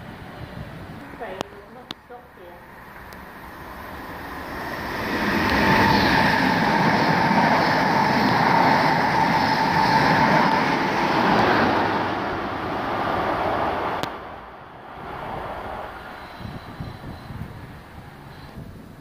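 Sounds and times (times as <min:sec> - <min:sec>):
train wheels rushing on rail: 0:00.0 - 0:19.0.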